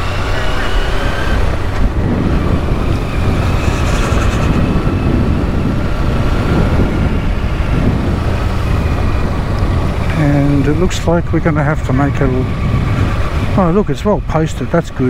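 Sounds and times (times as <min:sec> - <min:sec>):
motorcycle engine running: 0:00.0 - 0:13.9
wind and road noise: 0:00.0 - 0:15.0.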